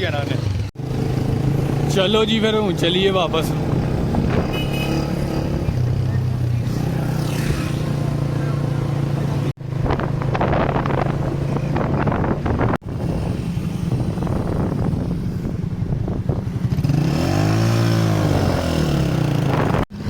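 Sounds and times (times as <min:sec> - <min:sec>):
traffic noise: 0:00.0 - 0:20.0
motorcycle engine running: 0:00.1 - 0:18.3.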